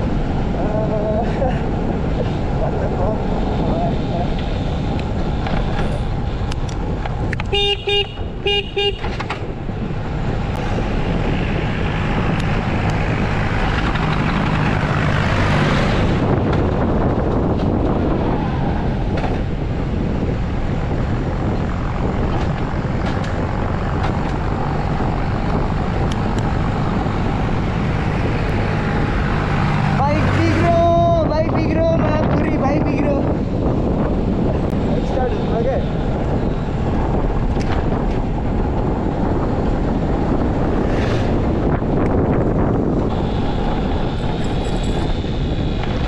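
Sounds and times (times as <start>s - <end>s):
road and wind noise: 0.0s - 46.0s.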